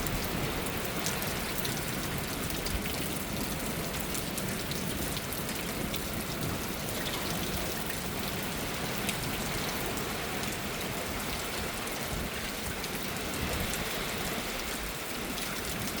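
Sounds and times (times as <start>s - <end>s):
leaves rustling in wind: 0.0s - 16.0s
low rumble of wind: 0.0s - 16.0s.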